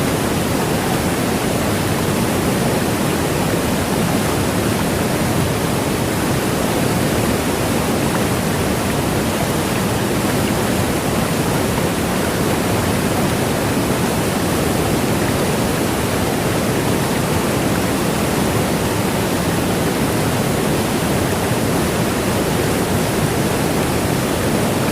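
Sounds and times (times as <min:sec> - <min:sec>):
fast-flowing water rushing: 0:00.0 - 0:24.9.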